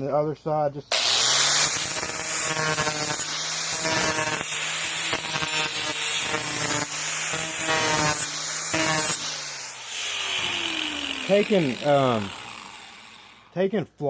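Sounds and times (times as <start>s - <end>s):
electric grinder on metal blade: 0.9s - 13.6s.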